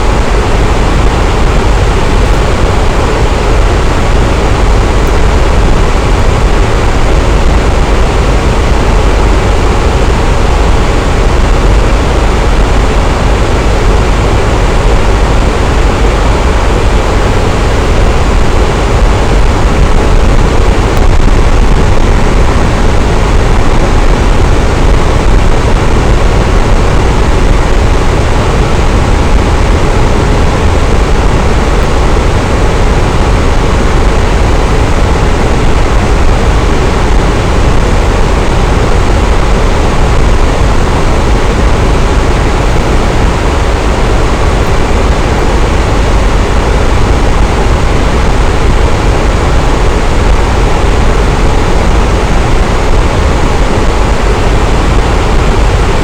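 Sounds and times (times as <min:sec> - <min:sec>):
electric fan whooshing hum: 0:00.0 - 0:56.0.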